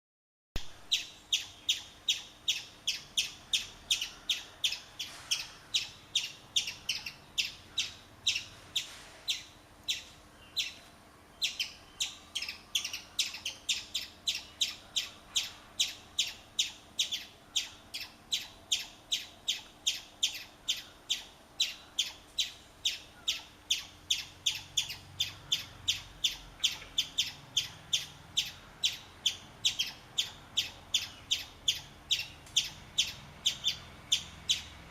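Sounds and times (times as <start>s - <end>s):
chipmunk chipping: 0.9s - 10.8s, 11.4s - 34.9s.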